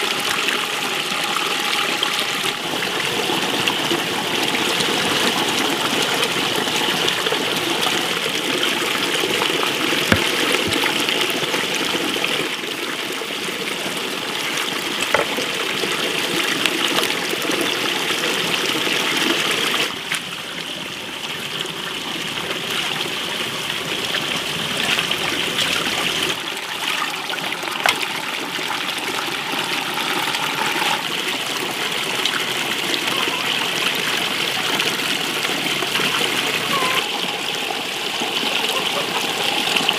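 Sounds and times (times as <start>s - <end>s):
tap water pouring into basin: 0.0s - 39.9s.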